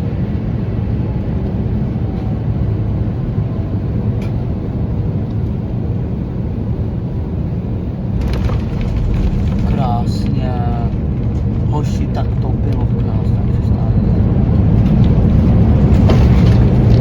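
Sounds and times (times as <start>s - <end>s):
vehicle interior rumble: 0.0s - 17.0s.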